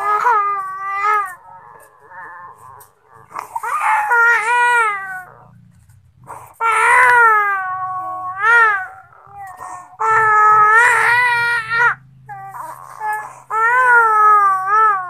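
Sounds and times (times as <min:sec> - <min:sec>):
infant crying: 0:00.0 - 0:05.6, 0:06.2 - 0:15.0.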